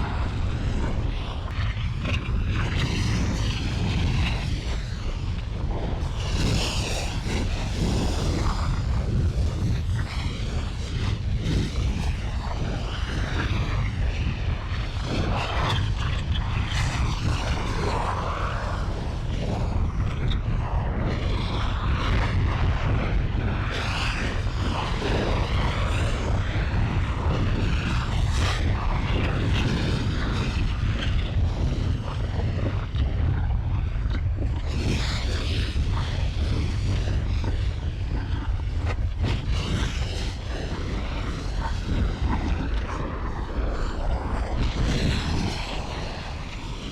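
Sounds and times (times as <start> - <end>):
deep rumble: 0.0 - 46.9.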